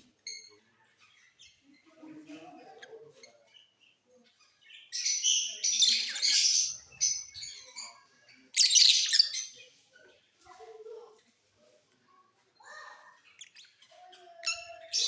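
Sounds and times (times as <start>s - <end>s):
lovebirds chirping and squawking: 0.0s - 11.2s, 12.6s - 15.0s.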